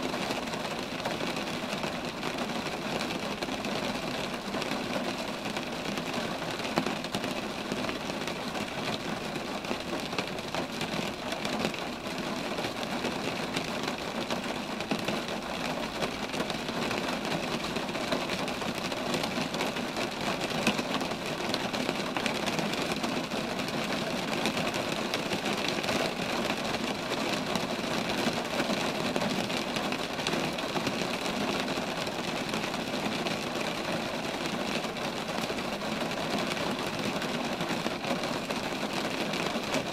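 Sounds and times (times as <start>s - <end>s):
rain pattering on trees: 0.0s - 39.9s.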